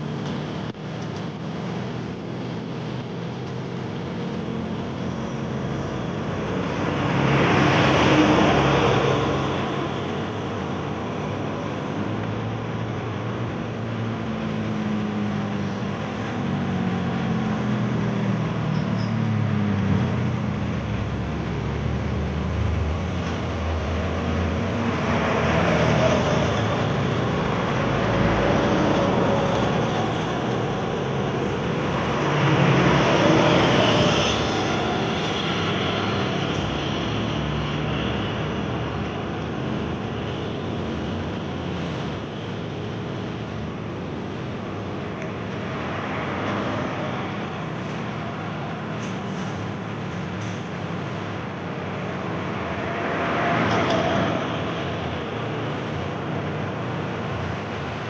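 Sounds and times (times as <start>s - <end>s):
low engine drone: 0.0s - 58.0s
trucks and buses driving past: 0.0s - 58.0s.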